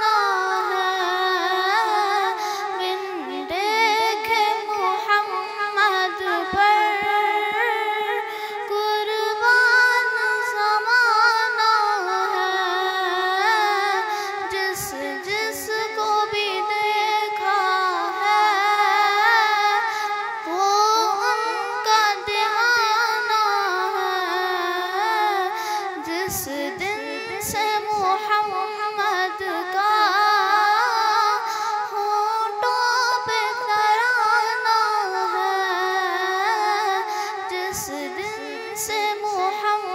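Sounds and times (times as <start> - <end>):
girl singing devotional song: 0.0 - 39.9.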